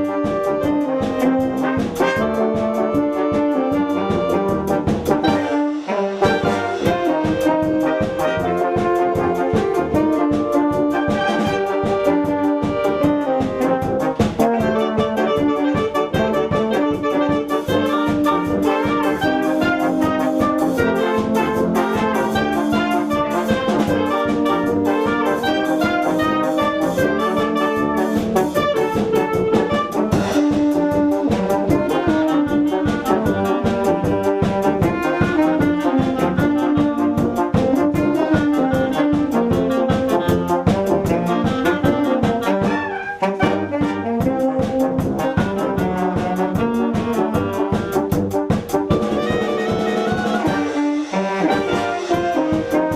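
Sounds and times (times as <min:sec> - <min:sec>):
brass band playing: 0:00.0 - 0:52.9.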